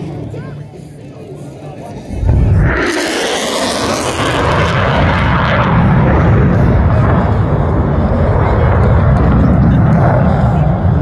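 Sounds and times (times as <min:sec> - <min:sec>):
jet roar and rumble: 0:00.0 - 0:11.0.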